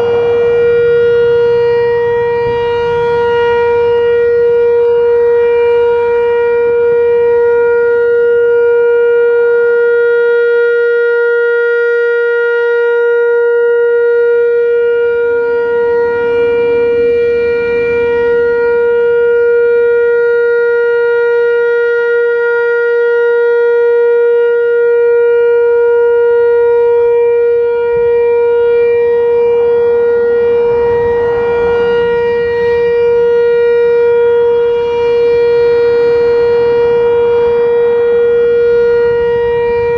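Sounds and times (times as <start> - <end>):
electronic warning siren: 0.0 - 39.9.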